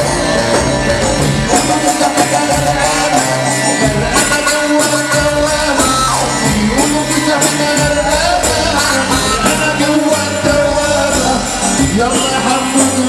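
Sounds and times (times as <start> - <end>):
loud dance music with singing: 0.0 - 13.0.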